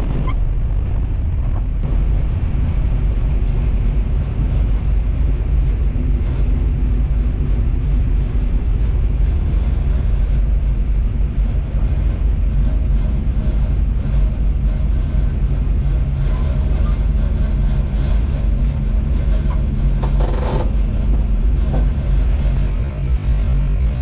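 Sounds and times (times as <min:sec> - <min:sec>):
car engine drone from cabin: 0:00.0 - 0:24.0.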